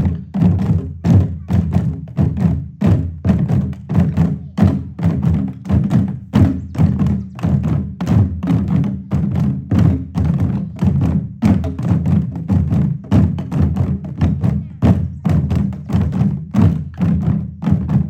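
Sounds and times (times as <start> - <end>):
drumming circle: 0.0 - 18.0.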